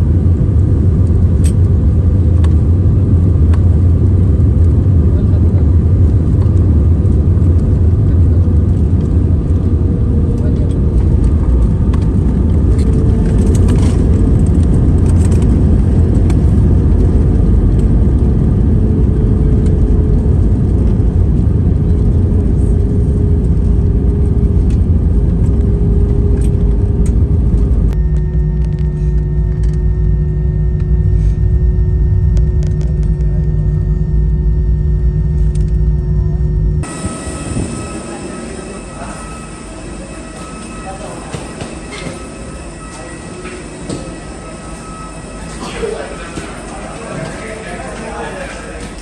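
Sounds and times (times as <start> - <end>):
aircraft cabin engine rumble: 0.0 - 49.0
deep steady hum: 0.0 - 49.0.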